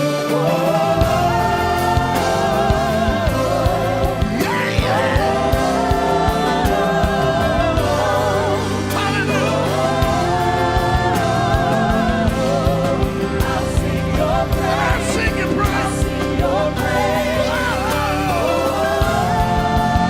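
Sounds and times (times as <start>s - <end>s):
choir singing: 0.0s - 20.0s
keyboard chords: 0.0s - 20.0s
steady drumbeat: 0.2s - 20.0s.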